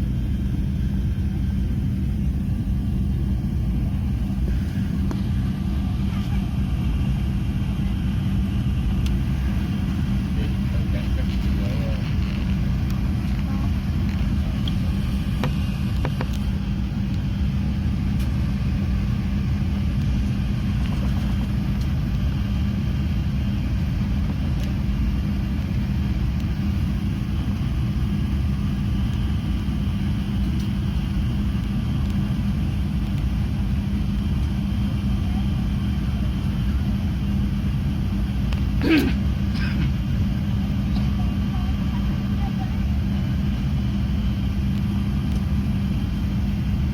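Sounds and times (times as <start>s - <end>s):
airliner low rumble: 0.0s - 46.9s
constant hum: 0.0s - 46.9s.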